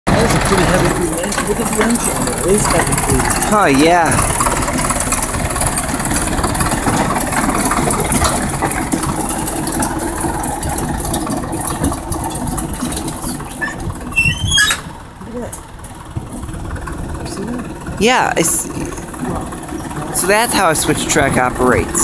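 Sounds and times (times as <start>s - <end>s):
small locomotive engine running: 0.1s - 22.0s.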